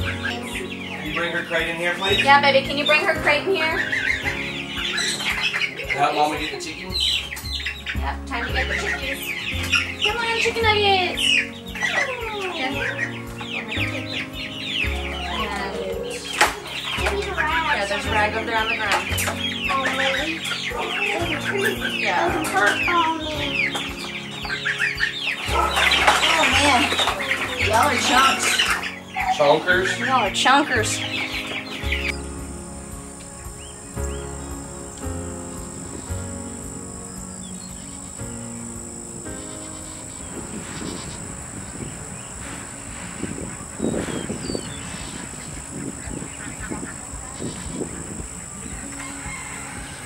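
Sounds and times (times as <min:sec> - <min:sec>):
background music with low notes: 0:00.0 - 0:50.0
chicks peeping: 0:00.0 - 0:50.0
high insect chirring: 0:00.0 - 0:50.0.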